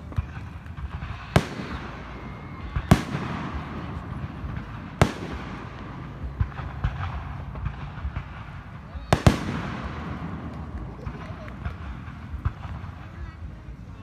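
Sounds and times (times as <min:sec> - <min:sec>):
firework shells bursting: 0:00.0 - 0:13.2
small firework pops: 0:00.0 - 0:14.0.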